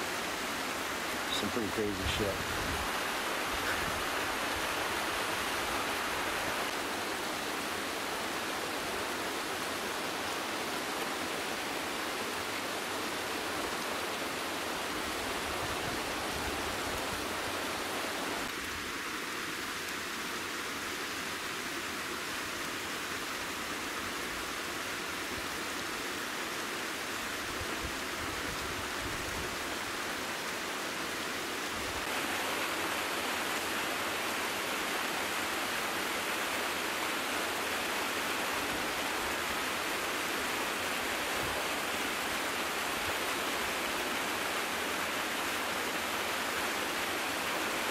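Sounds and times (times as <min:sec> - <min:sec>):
stream and waterfall rushing: 0:00.0 - 0:47.9.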